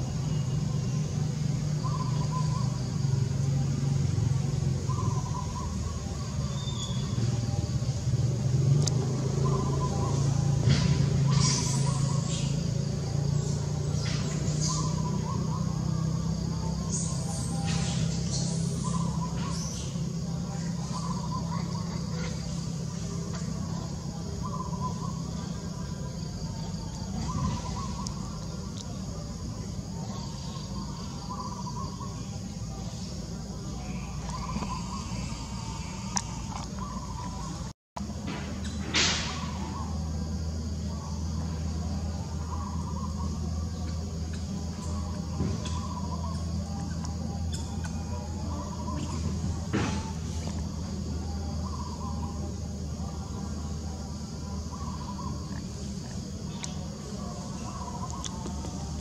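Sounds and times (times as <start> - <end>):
low mechanical rumble: 0.0 - 59.0.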